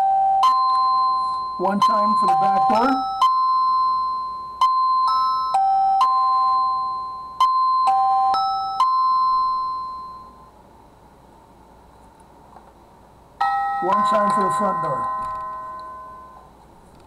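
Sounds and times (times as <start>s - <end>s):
doorbell electronic chime melody: 0.0s - 10.6s, 13.4s - 16.5s.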